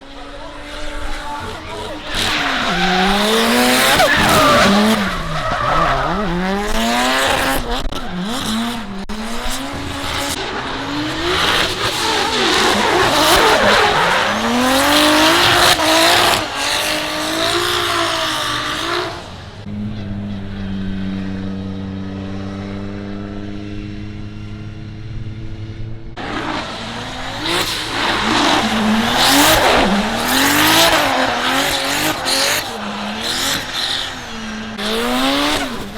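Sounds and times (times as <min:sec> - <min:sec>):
car engines revving: 0:00.0 - 0:35.9.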